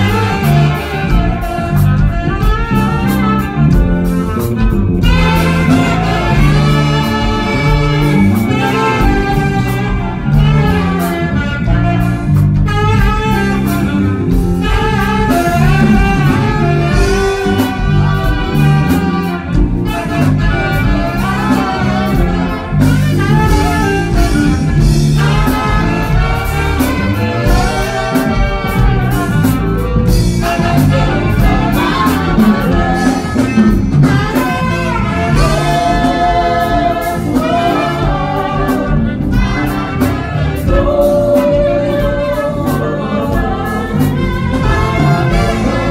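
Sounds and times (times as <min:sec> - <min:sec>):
band backing with bass and beat: 0:00.0 - 0:45.9
saxophones playing melody: 0:00.0 - 0:45.9.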